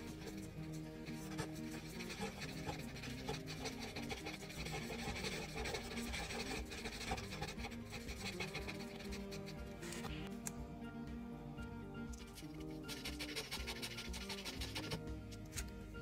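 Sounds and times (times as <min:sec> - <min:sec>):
marker rubbing on paper: 0:00.0 - 0:10.2, 0:12.2 - 0:15.1.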